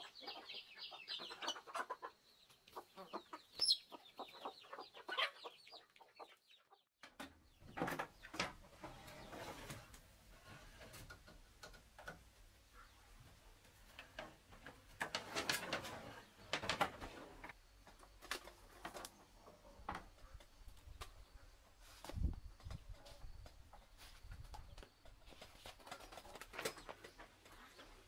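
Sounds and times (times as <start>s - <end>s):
chickens clucking: 0.0s - 6.8s, 7.5s - 28.0s.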